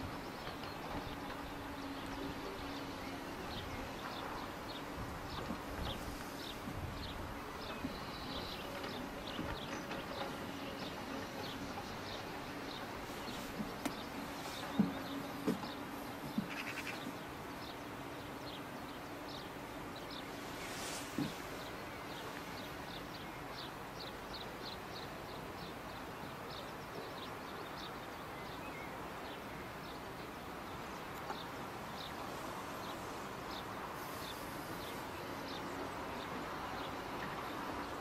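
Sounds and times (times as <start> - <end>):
low hum and hiss: 0.0 - 38.0.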